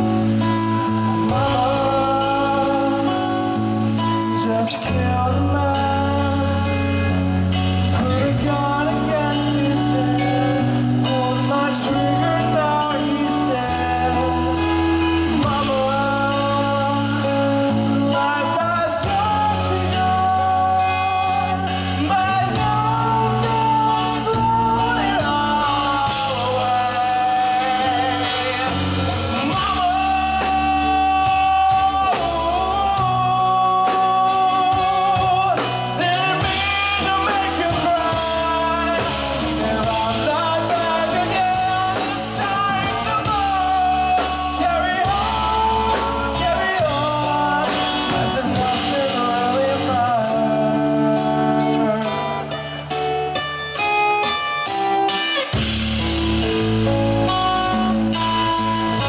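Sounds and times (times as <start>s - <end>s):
man singing: 0.0s - 59.0s
rock band playing: 0.0s - 59.0s.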